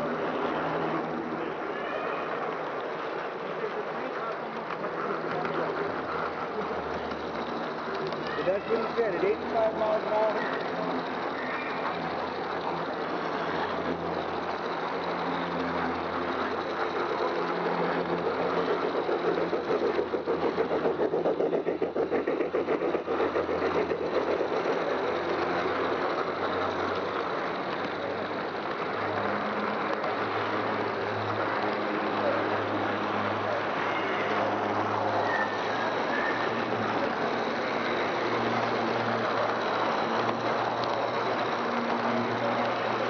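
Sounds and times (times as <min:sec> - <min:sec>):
model train motor hum: 0:00.0 - 0:43.0
rhythmic wheel clatter: 0:00.0 - 0:43.0
wheels rolling on rails: 0:00.0 - 0:43.0.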